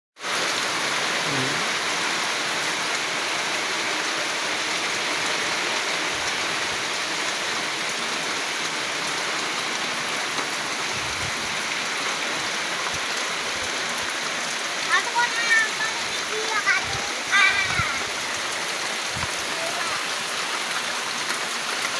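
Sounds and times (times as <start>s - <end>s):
steady rush of water: 0.2s - 21.9s.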